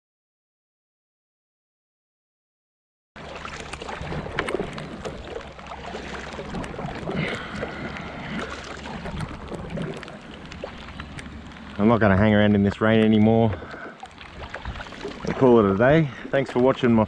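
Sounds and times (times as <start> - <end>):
kayak paddle strokes in water: 3.2 - 17.0
rain on river surface: 3.3 - 17.0.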